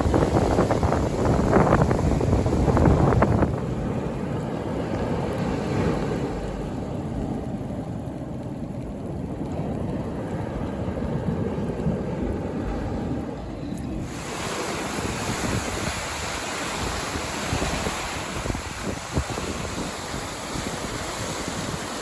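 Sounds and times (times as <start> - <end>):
ocean surf washing: 0.0 - 22.0
wind buffeting microphone: 0.0 - 22.0.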